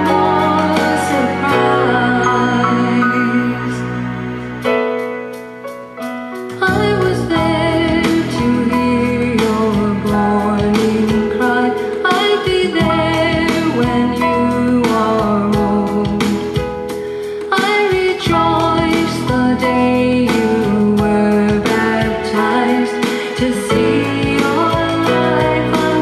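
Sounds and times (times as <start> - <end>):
person singing: 0.0 - 5.3, 6.5 - 26.0
instrumental accompaniment: 0.0 - 26.0.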